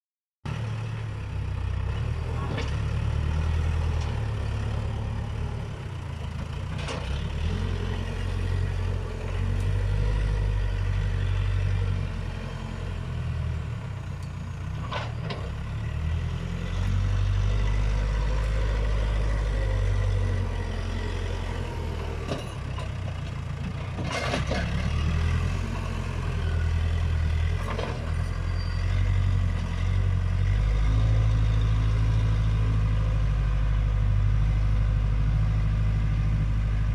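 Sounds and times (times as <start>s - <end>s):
diesel engine running: 0.7s - 36.9s.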